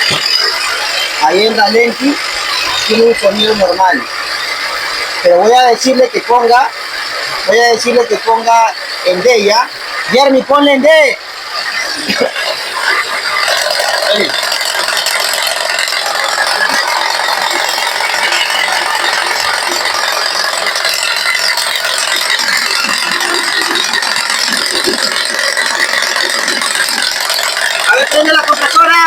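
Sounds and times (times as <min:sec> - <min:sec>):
car engine idling with rattle: 0:00.0 - 0:29.0.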